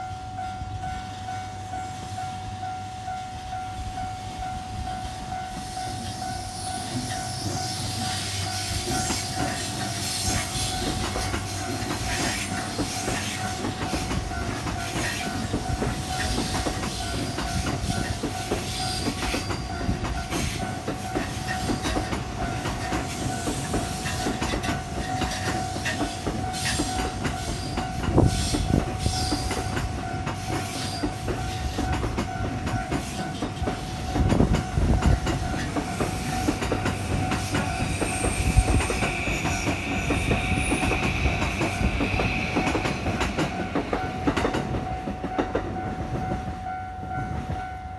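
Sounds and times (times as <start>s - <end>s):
crossing warning bell ringing: 0.0s - 47.9s
train wheels clattering: 5.0s - 46.7s.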